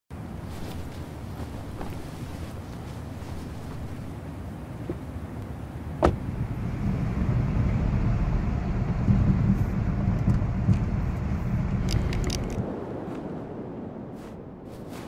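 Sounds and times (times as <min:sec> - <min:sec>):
car road and engine rumble: 0:00.1 - 0:12.9.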